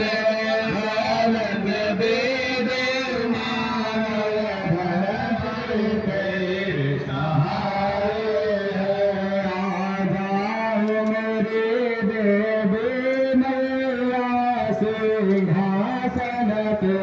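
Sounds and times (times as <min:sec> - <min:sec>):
mantra chanting: 0:00.0 - 0:17.0.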